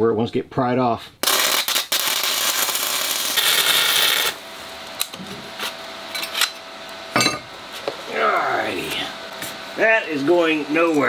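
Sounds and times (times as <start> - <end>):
welding arc crackling: 1.2 - 11.0.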